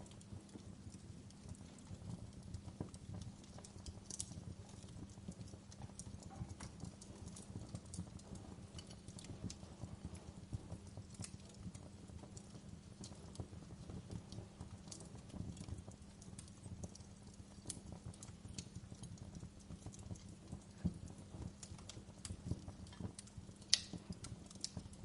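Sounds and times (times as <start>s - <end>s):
fireplace crackling: 0.0s - 25.0s.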